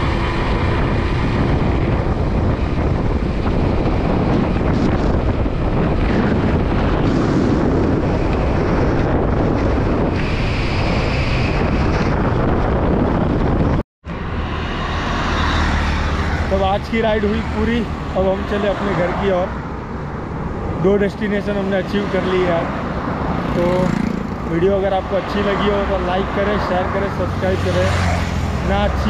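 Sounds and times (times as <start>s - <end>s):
roadside traffic: 0.0s - 29.0s
wind rushing over microphone: 0.0s - 29.0s.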